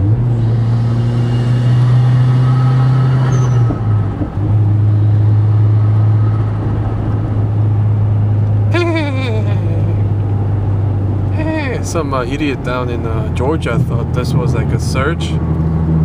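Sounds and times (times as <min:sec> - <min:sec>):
car engine drone in cabin: 0:00.0 - 0:16.0.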